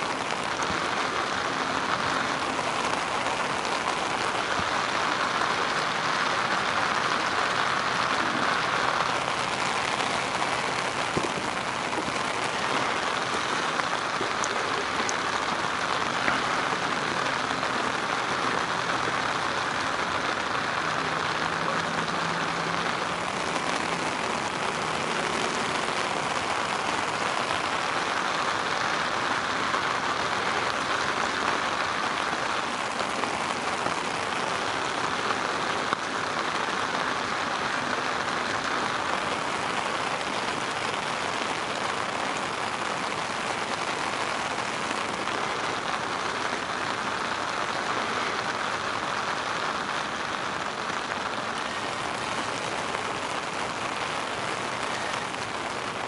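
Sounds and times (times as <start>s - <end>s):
rain falling on a river: 0.0s - 56.0s.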